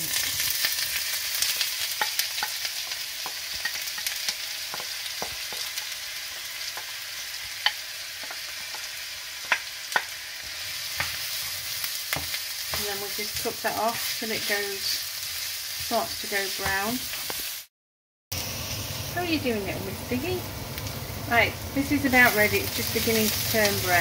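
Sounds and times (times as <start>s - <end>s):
onions sizzling in oil: 0.0s - 17.7s, 18.3s - 24.0s.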